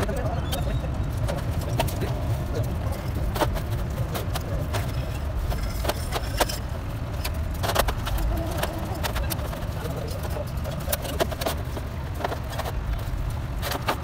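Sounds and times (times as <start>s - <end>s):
steady low rumble: 0.0s - 14.0s
metal clinks and knocks: 1.2s - 14.0s.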